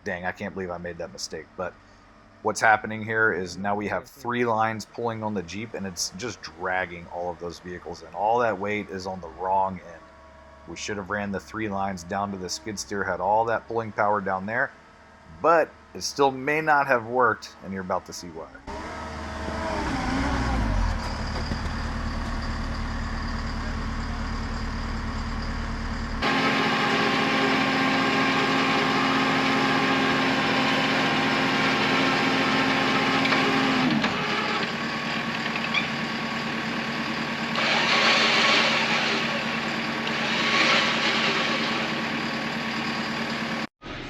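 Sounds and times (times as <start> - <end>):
winch motor whine: 0.0 - 16.3, 18.5 - 43.7
engine running: 0.0 - 44.0.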